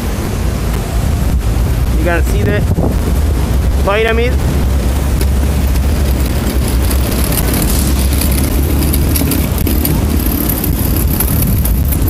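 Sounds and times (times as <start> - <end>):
city traffic hum: 0.0 - 12.0
wind buffeting microphone: 0.0 - 12.0.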